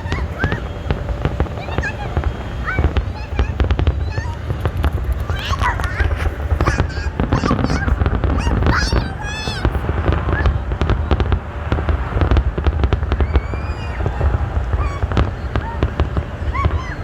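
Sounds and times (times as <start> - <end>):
fireworks crackling and popping: 0.0 - 17.0.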